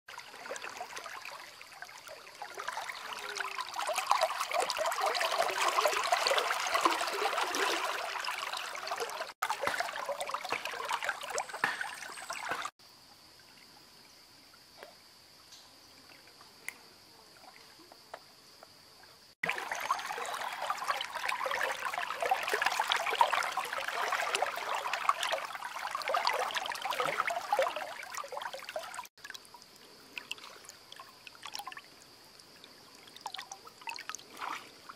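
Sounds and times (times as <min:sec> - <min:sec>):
river water lapping and splashing: 0:00.1 - 0:12.8, 0:19.4 - 0:34.9.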